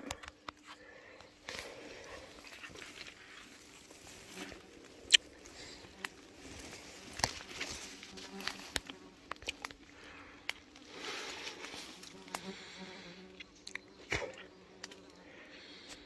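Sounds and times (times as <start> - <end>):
leaves and twigs rustling: 0.0 - 15.9
flying insect buzzing: 1.4 - 16.0.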